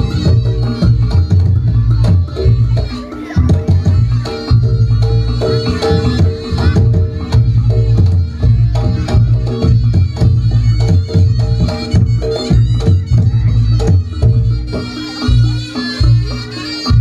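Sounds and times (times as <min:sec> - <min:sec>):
drums: 0:00.0 - 0:17.0
reed pipe melody: 0:00.0 - 0:17.0
struck gamelan percussion: 0:00.0 - 0:17.0.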